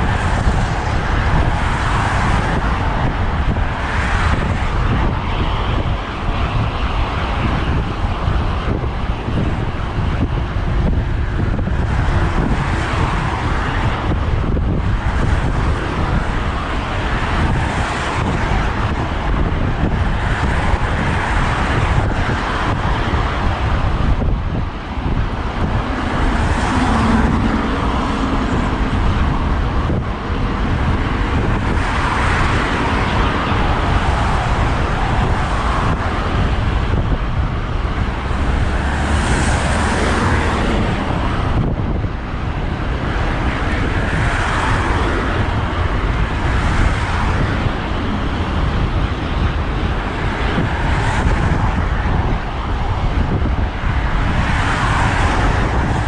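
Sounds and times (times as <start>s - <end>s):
passing cars: 0.0s - 56.0s
wind on microphone: 0.0s - 56.0s.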